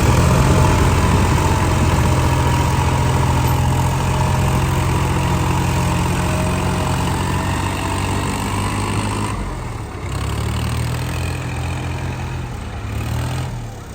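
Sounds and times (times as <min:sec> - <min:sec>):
tractor diesel engine running: 0:00.0 - 0:13.9.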